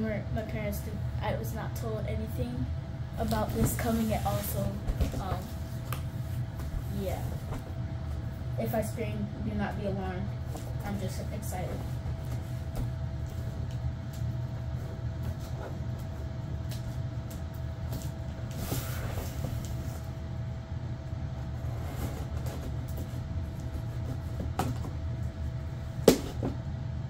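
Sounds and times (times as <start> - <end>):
faint hum: 0.0 - 27.0
low background rumble: 0.0 - 27.0.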